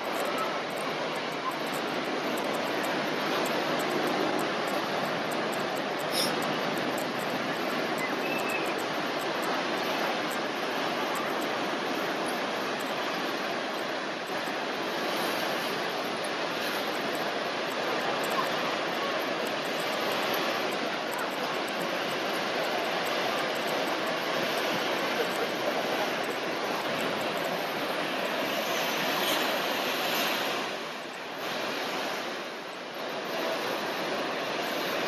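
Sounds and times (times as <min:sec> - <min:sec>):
heavy surf breaking: 0:00.0 - 0:35.0.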